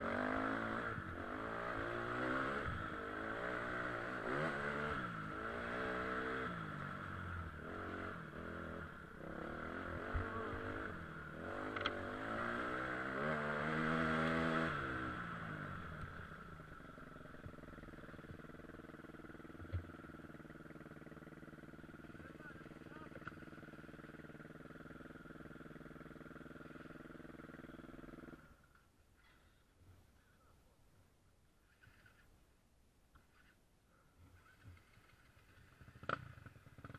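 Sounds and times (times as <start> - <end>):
dirt bike engine revving: 0.0 - 28.6, 34.4 - 36.9.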